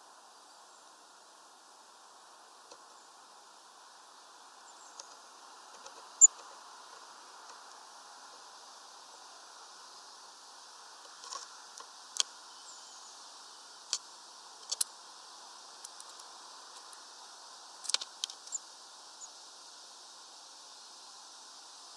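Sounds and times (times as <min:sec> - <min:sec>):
steady hiss: 0:00.0 - 0:21.9.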